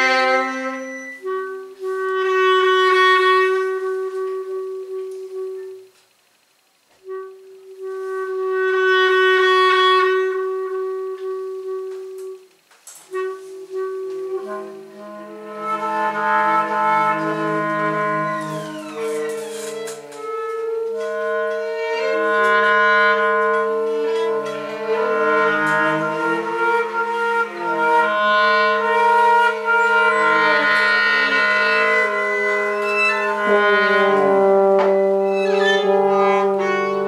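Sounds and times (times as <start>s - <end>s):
trombone long notes: 0.0s - 5.9s, 7.0s - 12.5s, 13.1s - 37.0s
bowed double basses: 0.0s - 37.0s.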